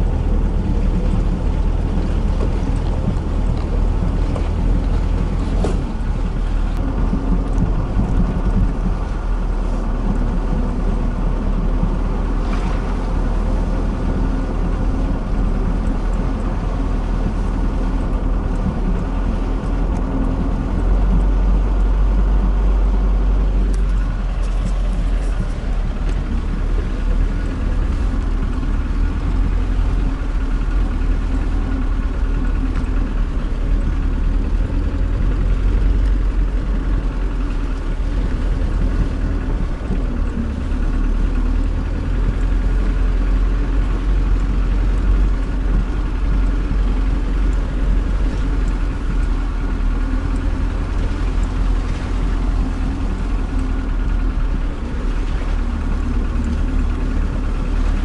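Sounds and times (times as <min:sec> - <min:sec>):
van engine running: 0:00.0 - 0:58.0.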